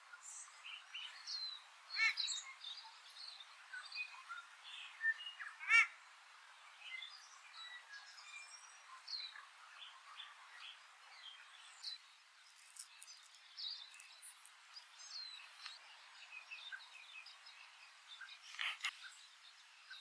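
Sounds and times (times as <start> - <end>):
small birds chirping: 0.0 - 20.0
soft outdoor hiss: 0.0 - 20.0.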